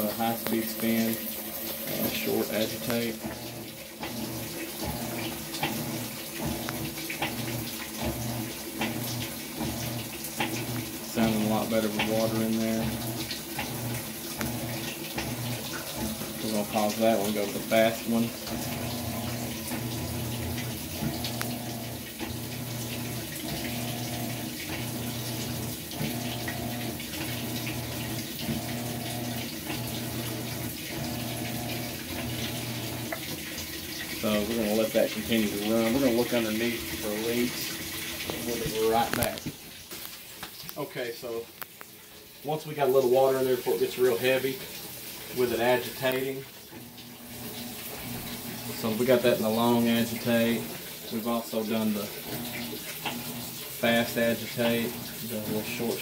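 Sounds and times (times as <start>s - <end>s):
motor hum: 0.0s - 39.6s, 45.1s - 50.8s, 51.8s - 56.0s
washing machine agitating: 0.0s - 56.0s
water churning in tub: 0.0s - 56.0s.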